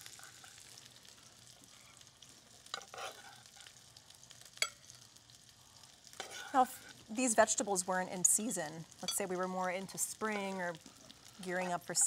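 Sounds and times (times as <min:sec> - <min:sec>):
faint sizzle from pans: 0:00.0 - 0:12.0.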